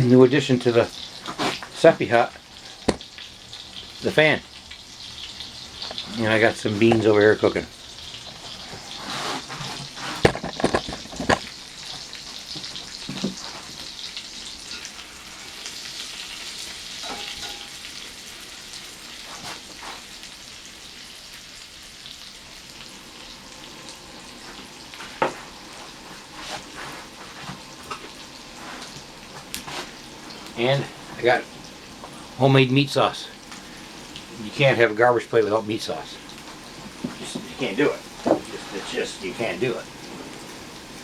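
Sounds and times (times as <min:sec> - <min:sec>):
burger sizzling in a pan: 0:00.0 - 0:41.0.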